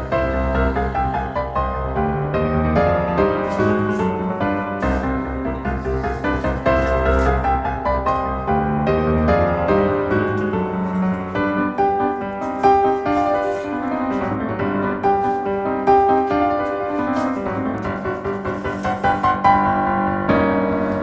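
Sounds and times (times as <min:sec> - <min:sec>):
piano melody over chords: 0:00.0 - 0:21.0.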